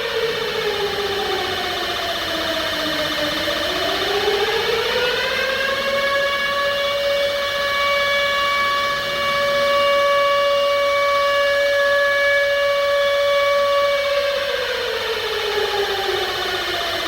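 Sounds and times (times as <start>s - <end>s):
civil defense siren wailing: 0.0s - 17.0s.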